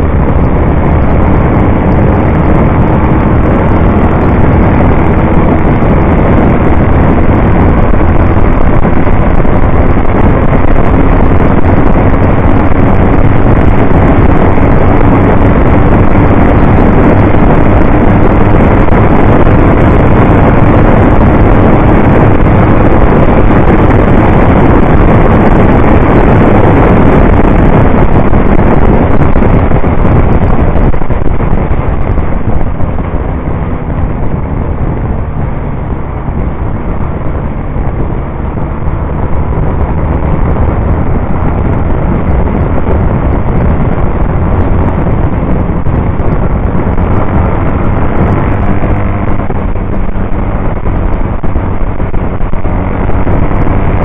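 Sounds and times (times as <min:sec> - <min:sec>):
motorcycle engine at racing speed: 0:00.0 - 0:54.0
wind noise on microphone: 0:00.0 - 0:54.0.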